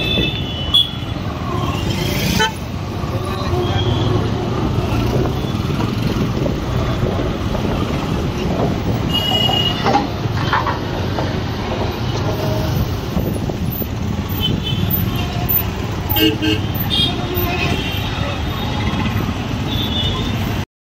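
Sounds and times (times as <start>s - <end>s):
moving vehicle rumble: 0.0s - 20.7s.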